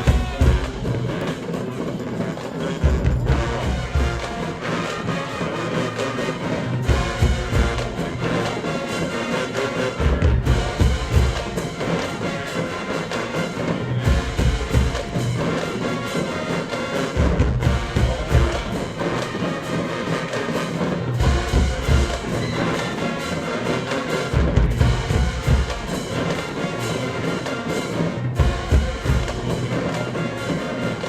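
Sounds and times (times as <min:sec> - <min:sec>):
marching band playing: 0:00.0 - 0:31.0.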